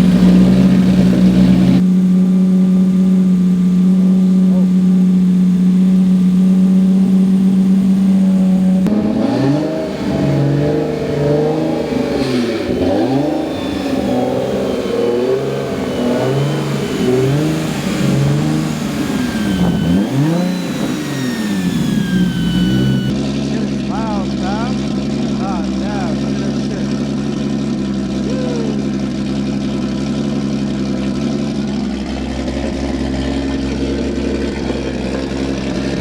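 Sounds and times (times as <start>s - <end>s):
car engine idling and revving: 0.0s - 36.0s
turbo whine: 0.0s - 36.0s.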